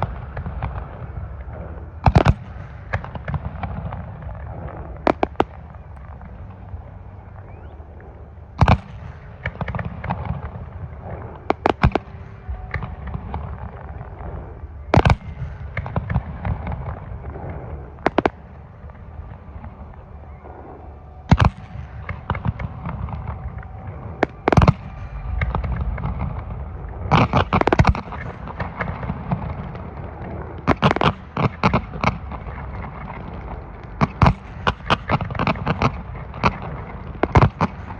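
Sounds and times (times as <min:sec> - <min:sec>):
firework crackling: 0:00.0 - 0:07.7, 0:08.6 - 0:37.9.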